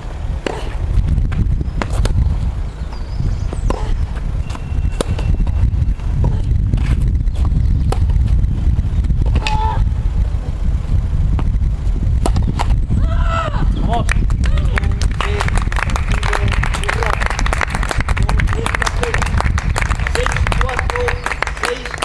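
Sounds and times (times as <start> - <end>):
low rumble: 0.0 - 21.8.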